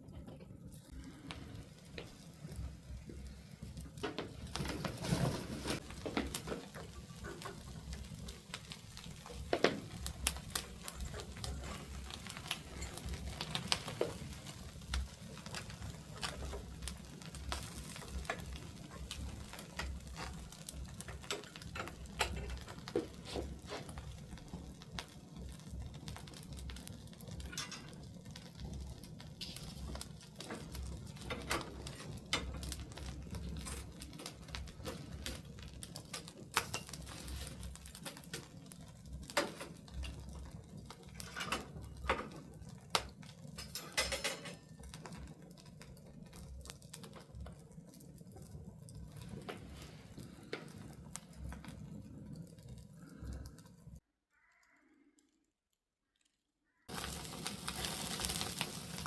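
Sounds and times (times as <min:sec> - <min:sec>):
wood fire crackling: 0:00.0 - 0:55.4, 0:56.2 - 0:59.0.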